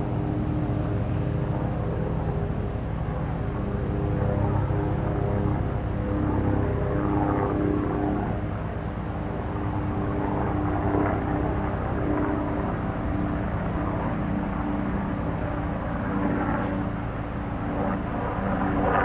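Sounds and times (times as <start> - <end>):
distant airplane engine drone: 0.0 - 19.0.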